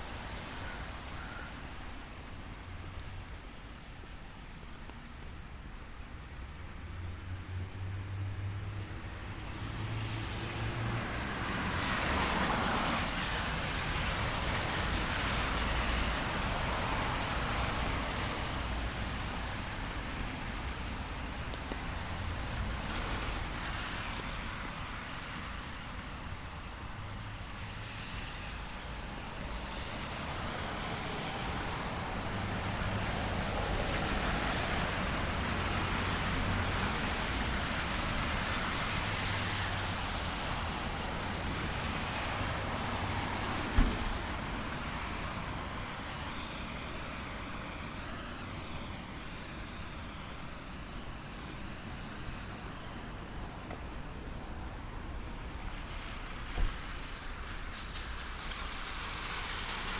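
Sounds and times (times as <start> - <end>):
car tyres hissing on wet street: 0.0 - 59.9
steady rain: 0.0 - 59.9.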